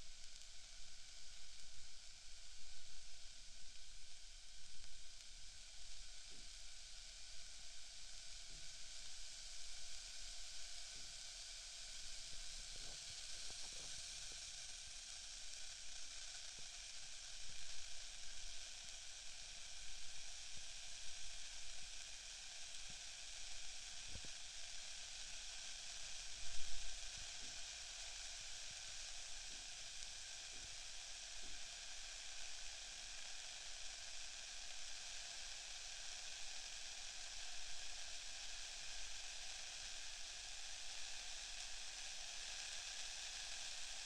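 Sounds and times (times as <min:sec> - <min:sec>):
ear candle burning hiss: 0:00.0 - 0:44.0.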